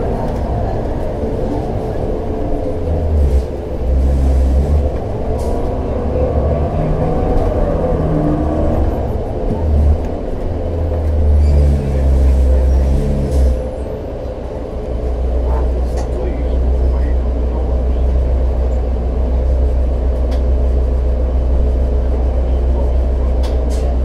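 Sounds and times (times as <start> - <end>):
bus engine rumble: 0.0 - 24.0.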